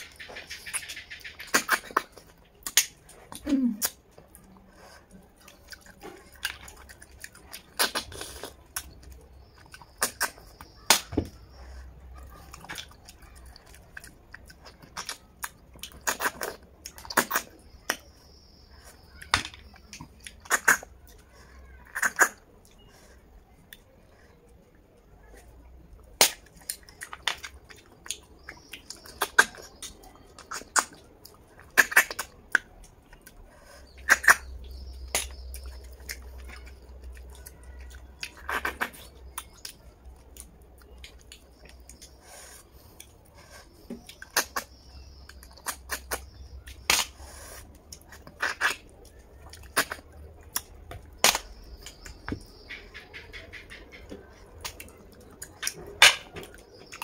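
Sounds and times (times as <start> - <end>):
mouth smacks chewing: 0.0 - 57.0.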